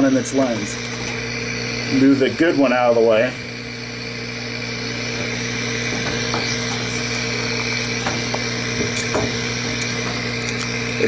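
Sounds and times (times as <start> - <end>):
electric machine hum: 0.0 - 11.0
high whine: 0.0 - 11.0.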